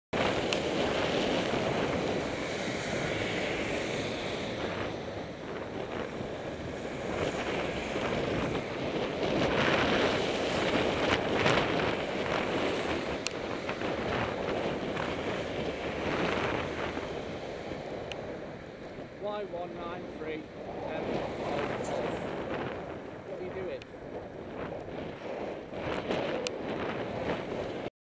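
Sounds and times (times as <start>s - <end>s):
road noise: 0.1s - 27.9s
wind rushing over microphone: 0.2s - 27.9s.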